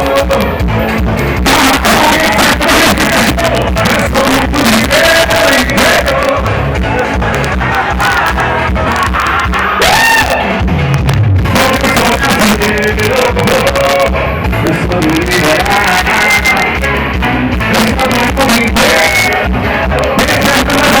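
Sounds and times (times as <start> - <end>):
carnival music with singer: 0.0 - 21.0.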